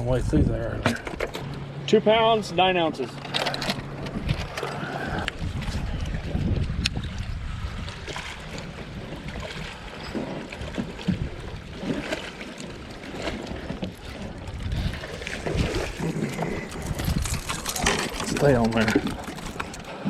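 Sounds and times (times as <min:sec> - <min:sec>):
wind buffeting microphone: 0:00.0 - 0:01.8, 0:03.6 - 0:20.0.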